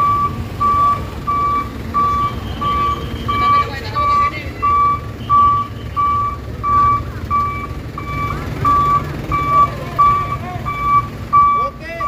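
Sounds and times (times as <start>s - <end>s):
low rumble of truck engine: 0.0s - 12.0s
truck reversing alarm beeping: 0.0s - 12.0s.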